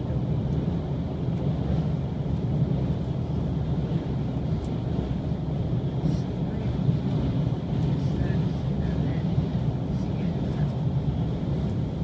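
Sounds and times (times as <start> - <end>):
train rumbling over bridge: 0.0 - 12.0.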